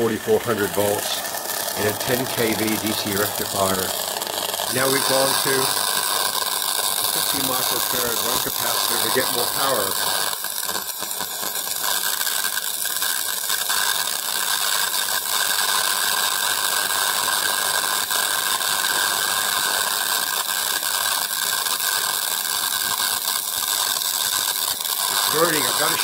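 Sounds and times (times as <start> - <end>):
plasma discharge crackling hiss: 0.0 - 26.0.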